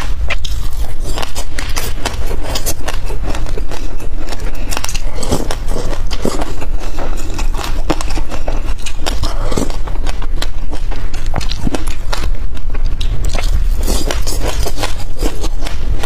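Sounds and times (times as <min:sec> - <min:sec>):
seeds being chewed: 0:00.0 - 0:16.0.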